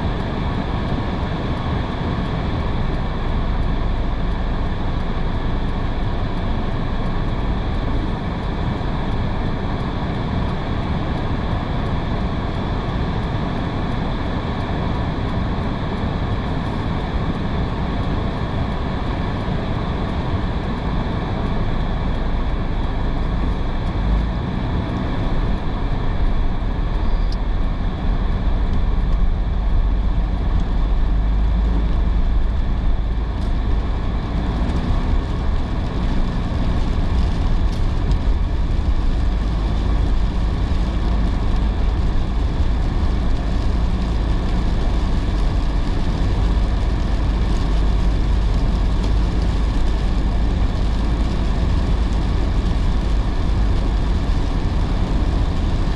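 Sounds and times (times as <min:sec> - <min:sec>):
hiss of tyres and rain: 0:00.0 - 0:55.9
low road rumble: 0:00.0 - 0:55.9.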